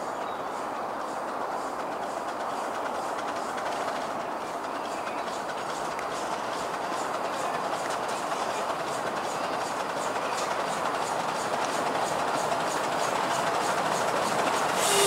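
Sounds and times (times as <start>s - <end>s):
miniature train rolling rumble: 0.0s - 15.0s.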